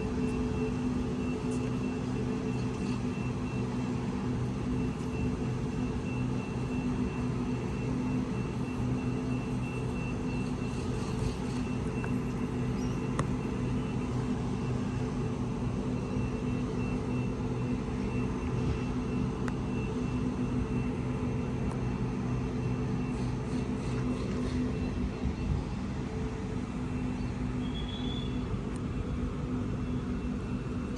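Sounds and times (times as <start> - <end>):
vehicle mechanical hum: 0.0 - 30.9.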